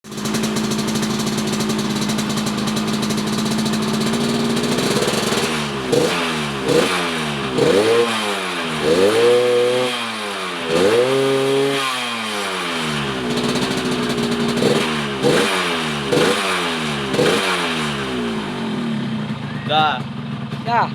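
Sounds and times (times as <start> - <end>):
raspy two-stroke motorcycle engine revving: 0.0 - 20.9.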